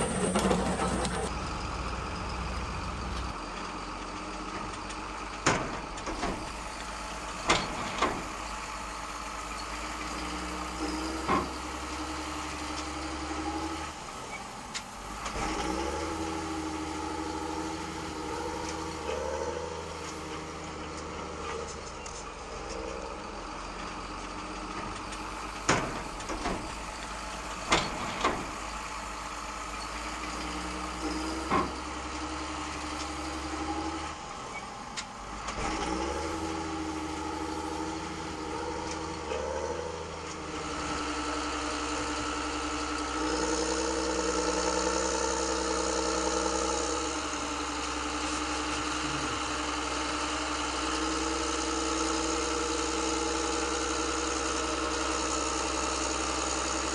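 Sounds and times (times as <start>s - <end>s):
model machines engine-like hum: 0.0s - 56.9s.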